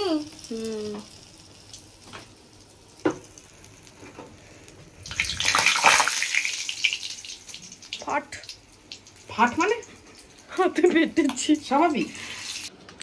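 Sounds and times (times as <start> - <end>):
fritters sizzling in hot oil: 0.0 - 12.7.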